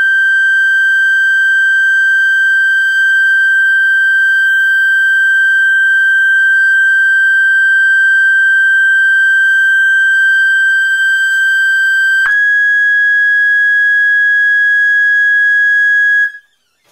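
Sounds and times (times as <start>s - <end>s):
high-pitched sine-wave tone: 0.0s - 16.9s.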